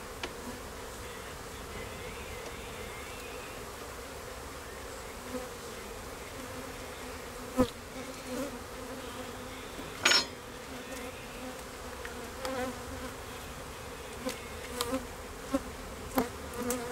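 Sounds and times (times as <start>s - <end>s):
honey bees buzzing: 0.0s - 16.9s.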